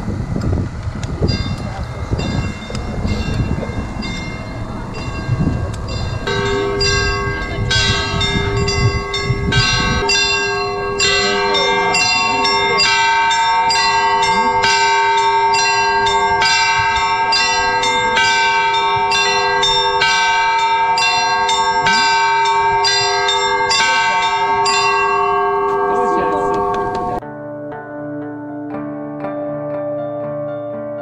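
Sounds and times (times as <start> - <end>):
low rumbling noise: 0.0 - 27.2
bells ringing: 1.2 - 27.2.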